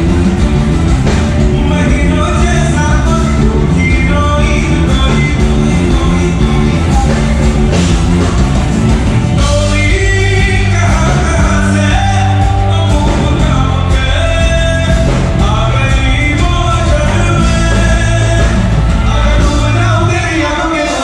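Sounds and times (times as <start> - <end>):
live pop-rock band: 0.0 - 21.0
man singing into microphone: 1.4 - 7.9, 9.4 - 21.0.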